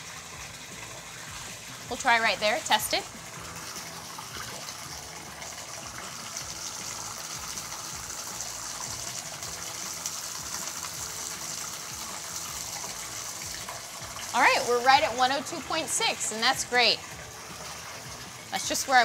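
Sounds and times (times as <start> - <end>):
water running from tub spout: 0.0 - 19.0.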